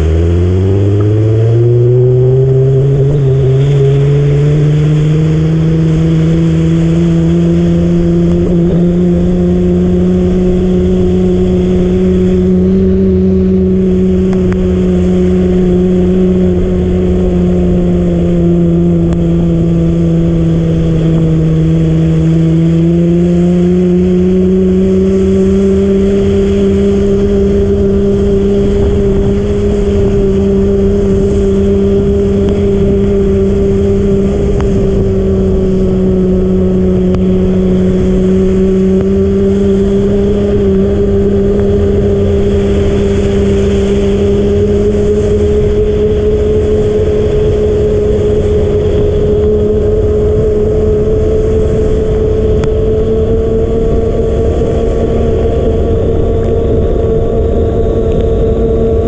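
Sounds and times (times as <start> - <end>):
loud steady hum: 0.0 - 59.0
road and wind rumble: 0.0 - 59.0.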